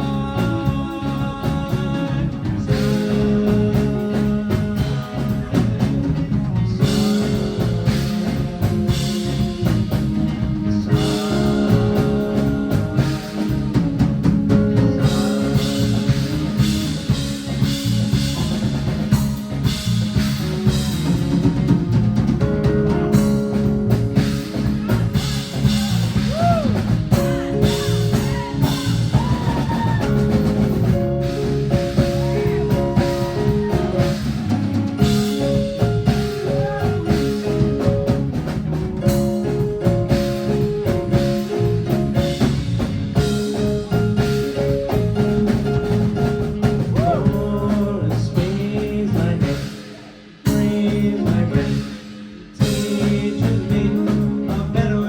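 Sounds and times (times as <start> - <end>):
drum kit beat: 0.0 - 55.0.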